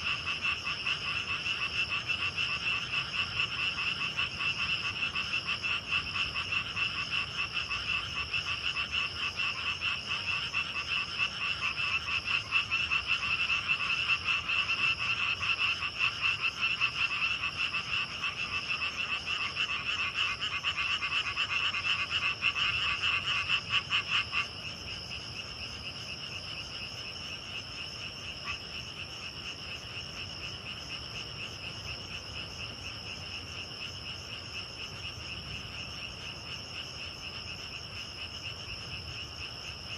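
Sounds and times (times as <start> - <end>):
crickets and insects trilling: 0.0 - 39.9
frogs croaking: 0.0 - 39.9.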